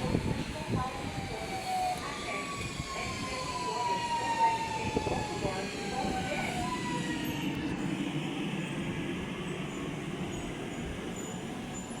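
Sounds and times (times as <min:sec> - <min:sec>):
steady train rumble: 0:00.0 - 0:12.0.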